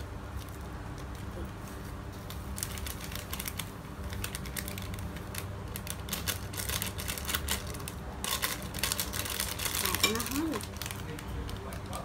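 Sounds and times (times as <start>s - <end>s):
foil packet crinkling: 0.0s - 12.0s.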